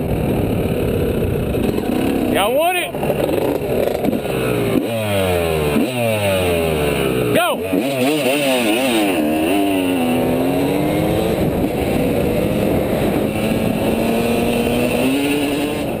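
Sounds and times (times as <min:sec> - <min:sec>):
road noise: 0:00.0 - 0:16.0
rushing wind: 0:00.0 - 0:16.0
dirt bike engine revving: 0:00.1 - 0:16.0.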